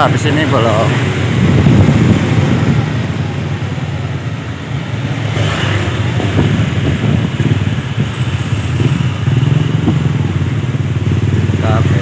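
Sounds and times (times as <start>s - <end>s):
wind gust on microphone: 0.0s - 11.4s.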